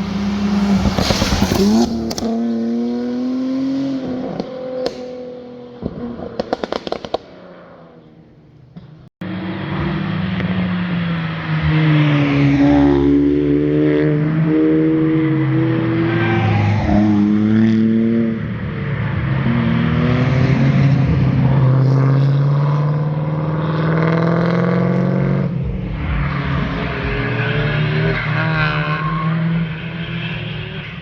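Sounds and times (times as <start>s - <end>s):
cars revving past at speed: 0.0s - 8.0s, 9.2s - 31.0s.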